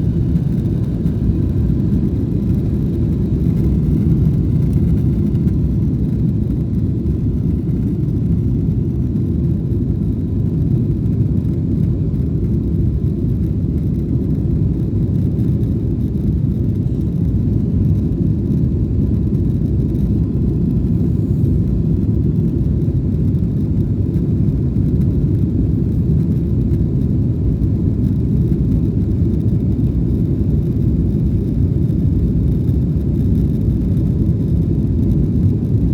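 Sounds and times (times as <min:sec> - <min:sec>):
jet engines rumbling during takeoff: 0:00.0 - 0:35.9.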